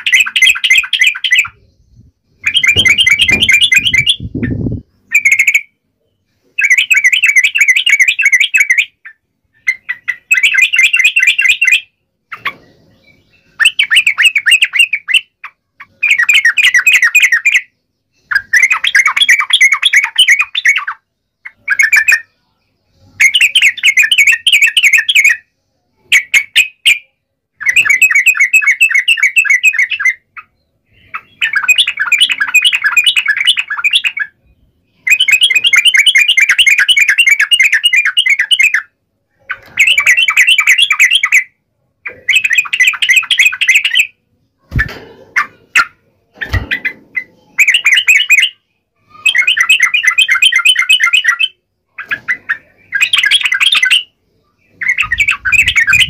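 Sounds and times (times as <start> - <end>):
bulbuls chattering song: 0.0 - 56.0.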